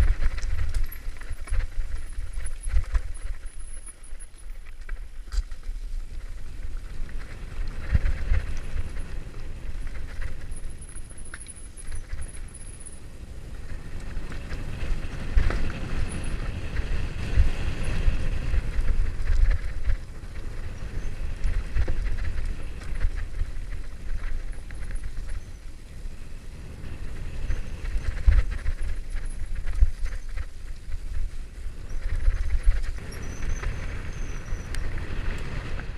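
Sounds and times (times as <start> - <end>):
bike rattling: 0.0 - 35.9.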